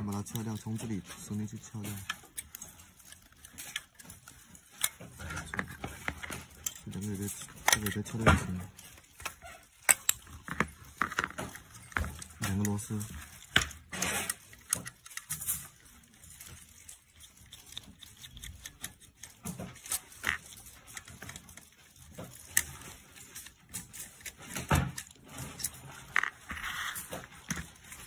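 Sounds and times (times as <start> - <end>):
light clicks of handled parts: 0.0 - 28.0.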